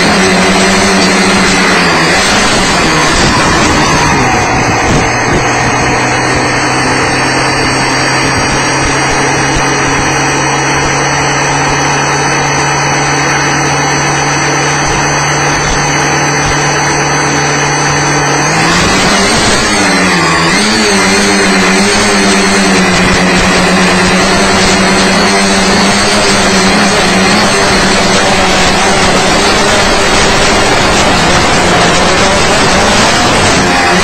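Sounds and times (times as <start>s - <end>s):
drone motors buzzing: 0.0s - 34.0s.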